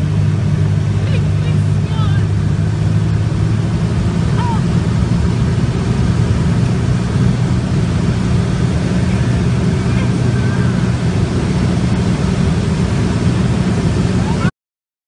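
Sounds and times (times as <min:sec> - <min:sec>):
aircraft engine droning: 0:00.0 - 0:14.5.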